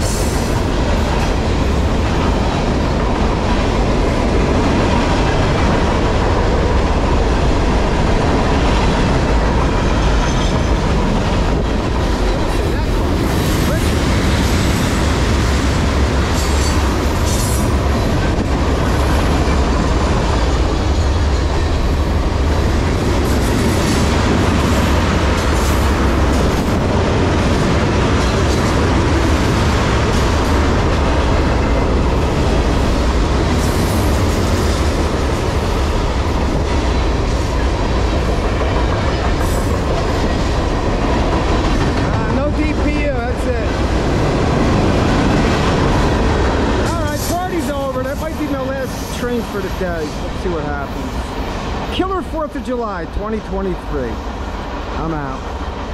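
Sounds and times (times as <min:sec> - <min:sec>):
wheels clacking over rail joints: 0:00.0 - 0:52.5
steel wheels rumbling on rail: 0:00.0 - 0:55.9.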